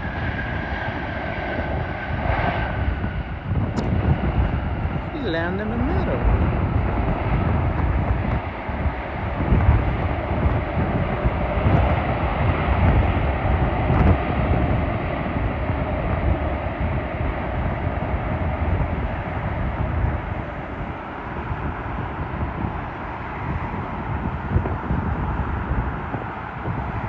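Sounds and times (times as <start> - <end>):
jet airliner engine roar: 0.0 - 27.0.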